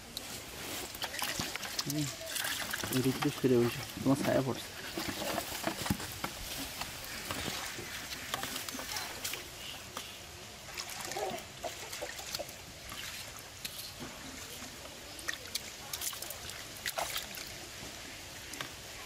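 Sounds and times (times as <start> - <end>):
hands squelching in wet mud: 0.0 - 17.7.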